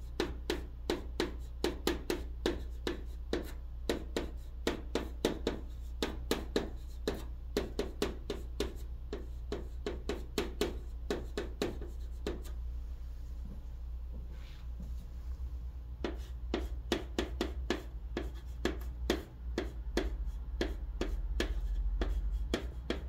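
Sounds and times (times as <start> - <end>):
chalk scratching on chalkboard: 0.0 - 12.6, 16.0 - 23.0.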